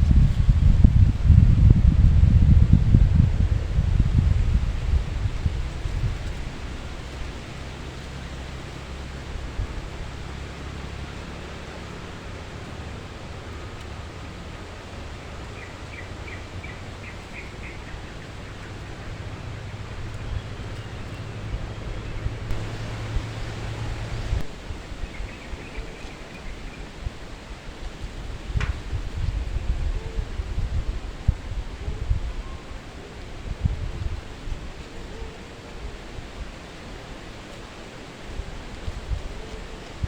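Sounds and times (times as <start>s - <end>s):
wind rumbling on microphone: 0.0s - 40.0s.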